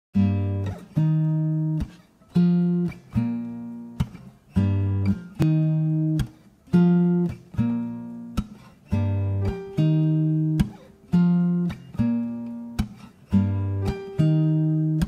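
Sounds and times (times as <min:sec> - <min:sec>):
slow plucked guitar tune: 0:00.2 - 0:15.0.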